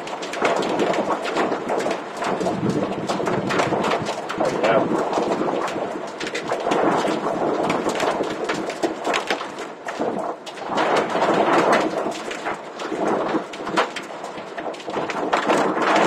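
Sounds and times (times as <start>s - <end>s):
hail pelting down: 0.0s - 16.0s
torrential rain: 0.0s - 16.0s.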